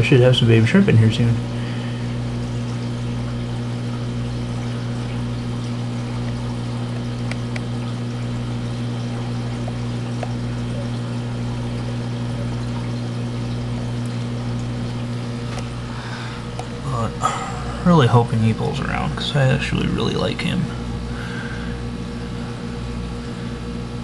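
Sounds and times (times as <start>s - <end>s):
low pump hum: 0.0s - 24.0s
water pouring and trickling: 0.1s - 21.0s.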